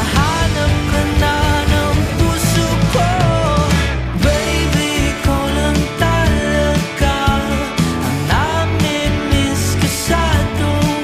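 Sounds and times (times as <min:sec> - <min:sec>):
bass and steady beat: 0:00.0 - 0:11.0
person singing pop song: 0:00.0 - 0:11.0.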